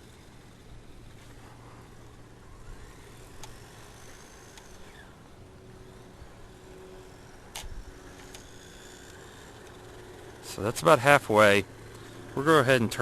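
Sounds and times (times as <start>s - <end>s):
toy car motor whine: 0.0s - 13.0s.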